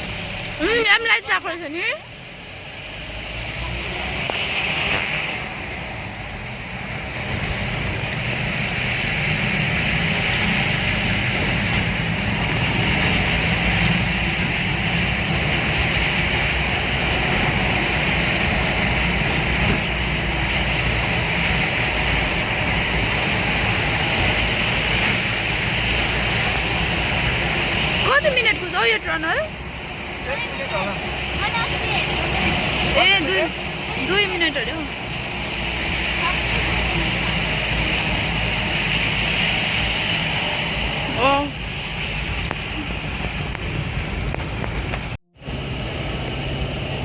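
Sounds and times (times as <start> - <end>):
train rumbling through tunnel: 0.0 - 47.0.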